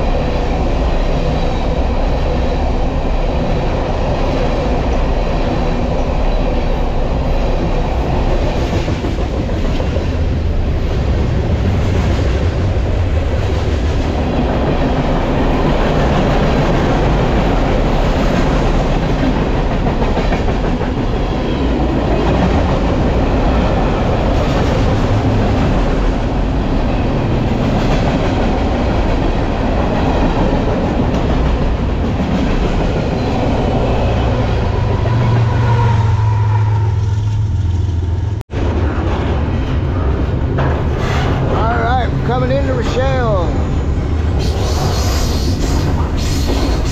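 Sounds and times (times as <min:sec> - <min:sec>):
freight train wheels rumbling: 0:00.0 - 0:46.9.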